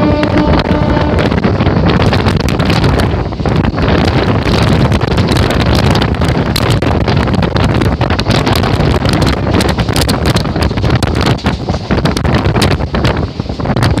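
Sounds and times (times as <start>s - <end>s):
train rumbling on track: 0.0s - 14.0s
wind buffeting microphone: 0.0s - 14.0s.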